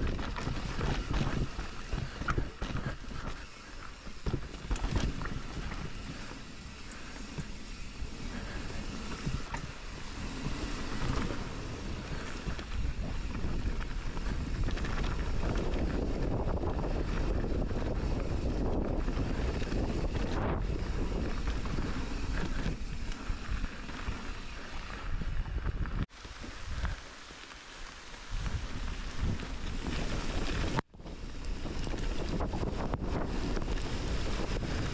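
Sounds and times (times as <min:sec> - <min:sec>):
wind buffeting microphone: 0:00.0 - 0:27.0, 0:28.2 - 0:34.9
bike tyres rumbling on ground: 0:00.0 - 0:34.9.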